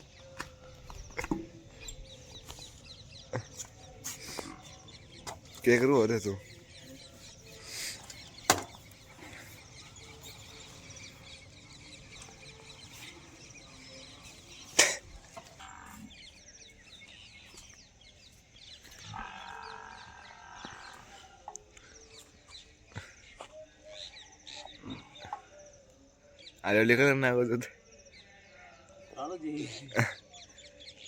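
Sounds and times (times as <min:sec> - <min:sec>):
faint high chirping: 0:00.0 - 0:31.0.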